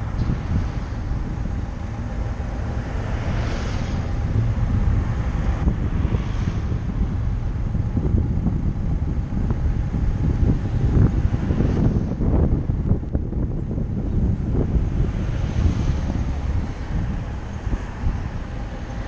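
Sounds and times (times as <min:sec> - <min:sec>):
car road and engine rumble: 0:00.0 - 0:19.0
wind buffeting microphone: 0:00.0 - 0:19.0.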